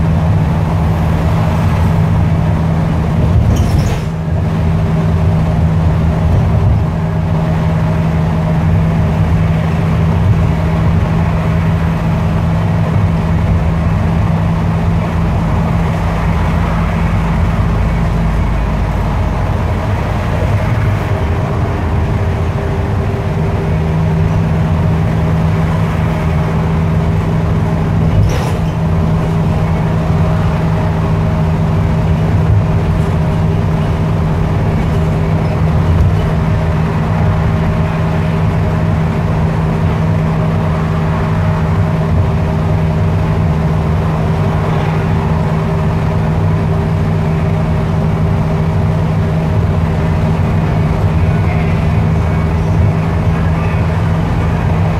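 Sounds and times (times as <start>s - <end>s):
bus engine and road drone: 0.0s - 54.9s.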